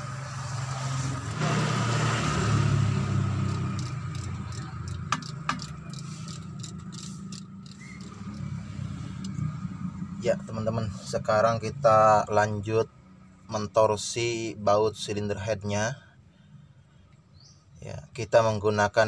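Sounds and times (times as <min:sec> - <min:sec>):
vehicle engine rumble: 0:00.0 - 0:18.2.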